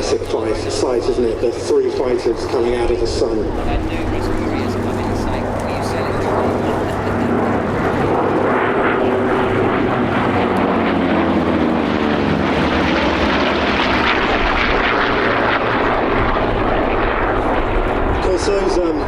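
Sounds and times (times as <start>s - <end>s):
propeller aircraft engines flying past: 0.0s - 19.0s.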